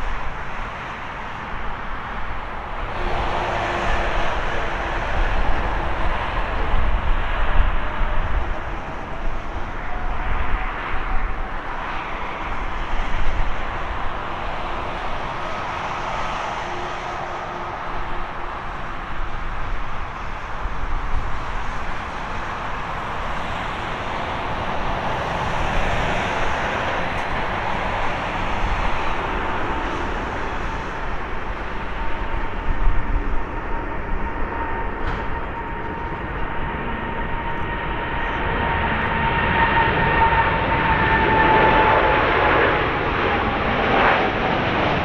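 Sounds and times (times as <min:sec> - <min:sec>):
jet engine rush: 0:00.0 - 0:45.0.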